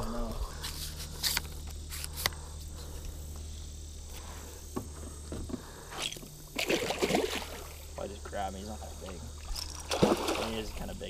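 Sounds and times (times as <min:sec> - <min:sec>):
insects buzzing: 0:00.0 - 0:11.0
low hum: 0:00.0 - 0:11.0.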